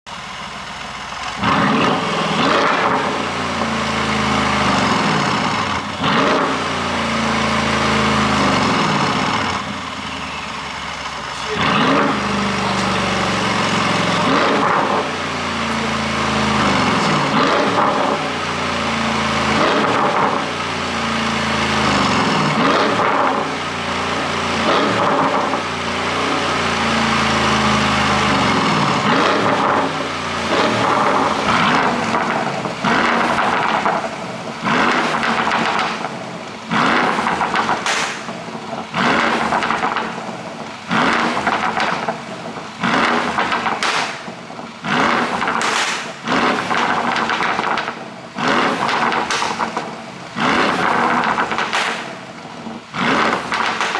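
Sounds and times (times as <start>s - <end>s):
car engine revving: 0.1s - 53.9s
exhaust crackles and pops: 0.1s - 53.9s.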